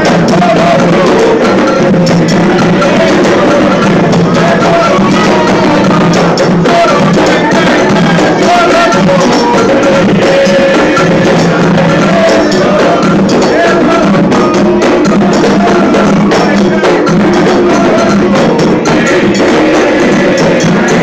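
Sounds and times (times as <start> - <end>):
chanted song: 0.0 - 21.0
hand drums and percussion: 0.0 - 21.0.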